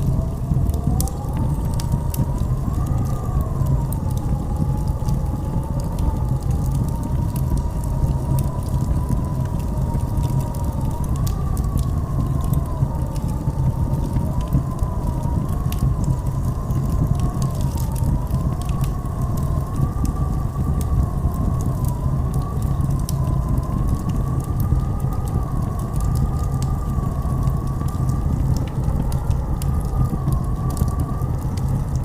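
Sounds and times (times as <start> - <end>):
sharp crackles: 0.0 - 32.0
steady low rumble: 0.0 - 32.0
wind howling and whistling: 0.0 - 32.0.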